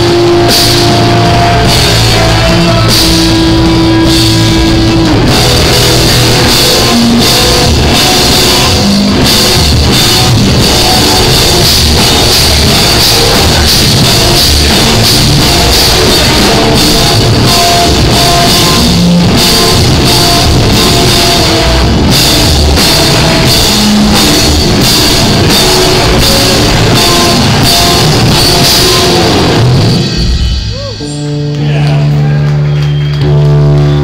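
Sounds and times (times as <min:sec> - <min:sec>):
distorted electric guitars: 0:00.0 - 0:34.0
pounding drum kit: 0:00.0 - 0:34.0.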